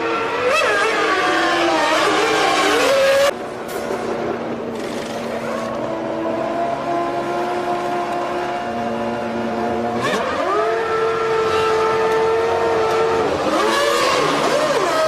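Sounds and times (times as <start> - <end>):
racing car engine revving: 0.0 - 3.4, 4.8 - 15.0.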